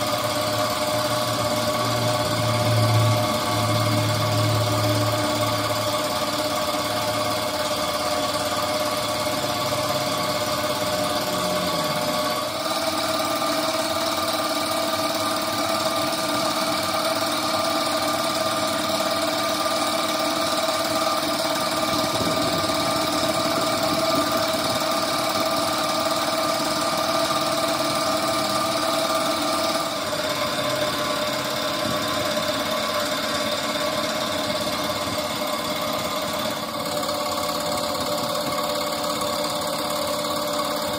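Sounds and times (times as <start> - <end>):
machine motor humming: 0.0 - 40.9.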